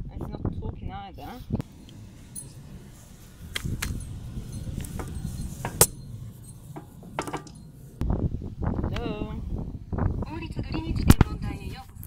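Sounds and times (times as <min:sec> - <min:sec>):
low rumble: 0:01.4 - 0:12.0.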